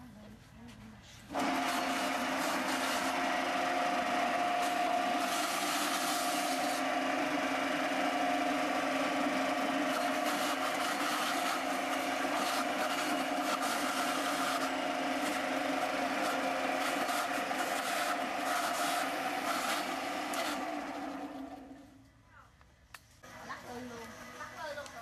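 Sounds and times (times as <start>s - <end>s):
coconut shredding machine grinding: 1.3s - 22.0s, 23.2s - 25.0s.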